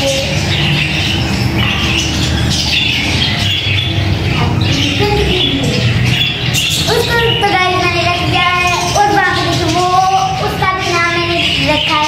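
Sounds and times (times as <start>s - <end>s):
parrots squawking and chattering: 0.0s - 12.0s.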